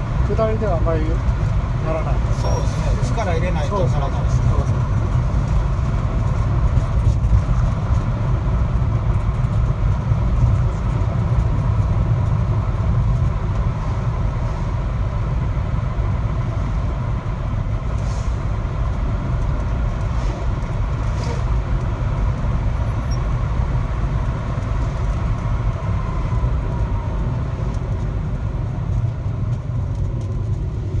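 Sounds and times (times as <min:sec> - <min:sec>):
road and drivetrain rumble: 0:00.0 - 0:31.0.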